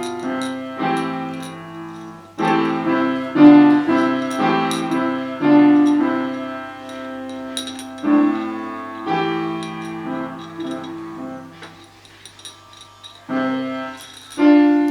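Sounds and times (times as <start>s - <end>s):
slow piano chords: 0.0s - 14.9s.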